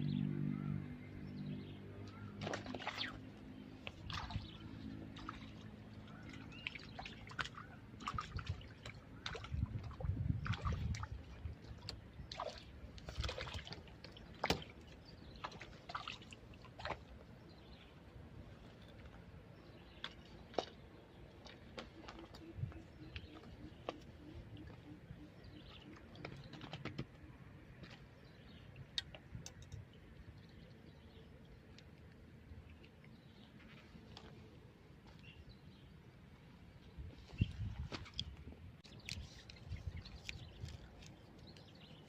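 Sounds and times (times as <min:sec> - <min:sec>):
water sloshing and splashing: 0:01.9 - 0:42.0.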